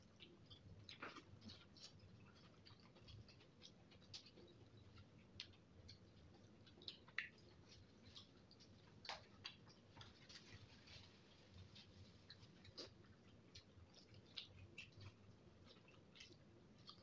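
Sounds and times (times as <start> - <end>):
chewing mouth sounds: 0.0 - 17.0
fingers squishing through noodles: 0.0 - 17.0.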